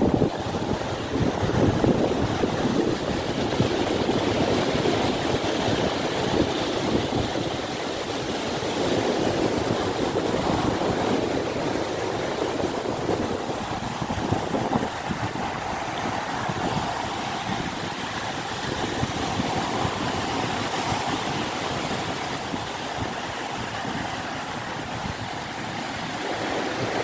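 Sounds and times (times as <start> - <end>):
waves breaking and churning: 0.0 - 27.0.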